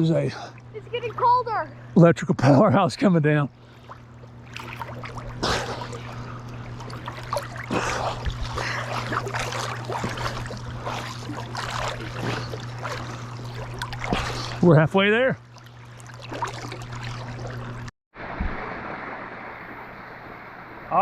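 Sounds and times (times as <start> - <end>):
low hum: 0.0 - 21.0
water splashing from swimming: 3.6 - 20.9.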